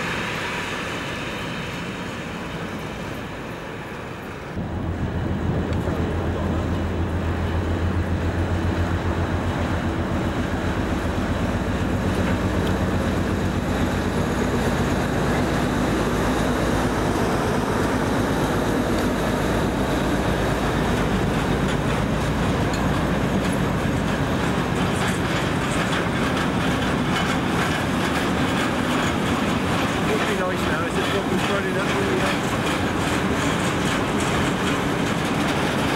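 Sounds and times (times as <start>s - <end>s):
diesel locomotive engine drone: 0.0s - 35.9s
wagons rumbling by: 0.0s - 35.9s
wheels clacking over rail joints: 0.0s - 35.9s.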